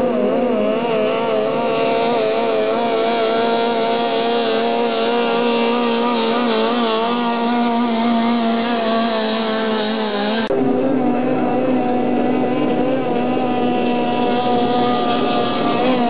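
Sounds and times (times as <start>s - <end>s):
powerboat engine at high revs: 0.0s - 16.0s.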